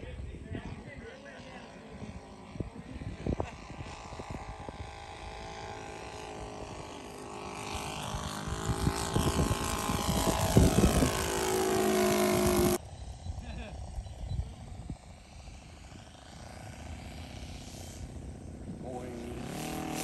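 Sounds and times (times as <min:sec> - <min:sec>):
model airplane engine passing: 0:00.0 - 0:20.0.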